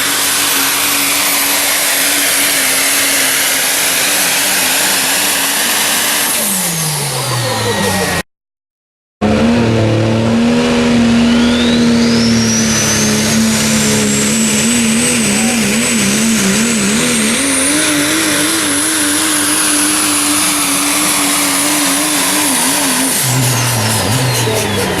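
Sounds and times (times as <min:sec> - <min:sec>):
diesel truck engine at full throttle: 0:00.0 - 0:08.2, 0:09.2 - 0:25.0
turbocharger whine: 0:00.0 - 0:08.2, 0:09.2 - 0:25.0.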